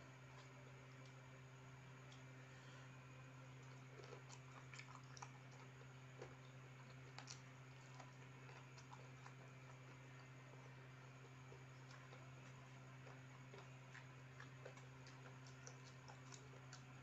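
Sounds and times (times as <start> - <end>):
steady low hum: 0.0 - 17.0
chewing and mouth clicks: 0.2 - 1.3, 3.4 - 17.0.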